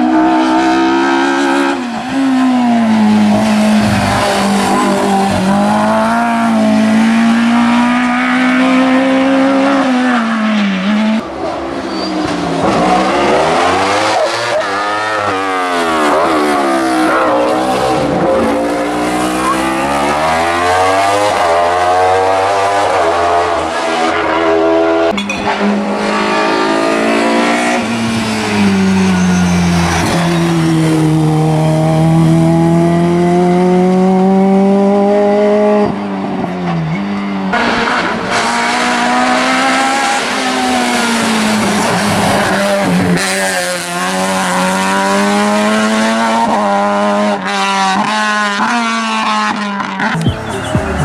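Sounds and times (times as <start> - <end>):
race car engine accelerating: 0.0 - 11.2, 11.8 - 51.0
race car engine revving through gears: 0.0 - 51.0.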